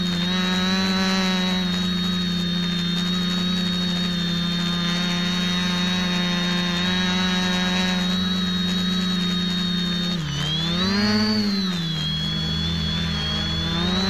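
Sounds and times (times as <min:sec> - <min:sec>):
quadcopter motors humming: 0:00.0 - 0:14.0.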